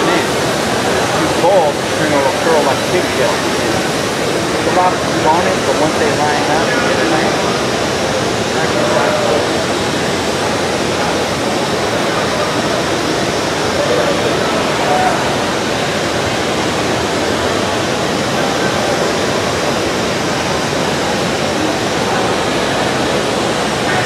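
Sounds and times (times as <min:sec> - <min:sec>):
faint voices: 0:00.0 - 0:24.0.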